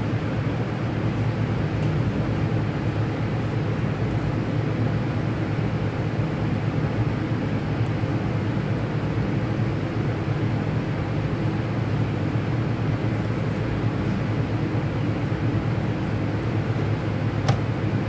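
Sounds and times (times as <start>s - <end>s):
ventilation drone and air rush: 0.0s - 18.0s.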